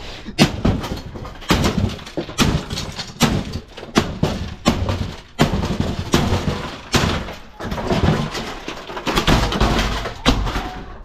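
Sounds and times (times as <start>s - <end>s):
loud knocks and thuds ringing: 0.4s - 11.0s.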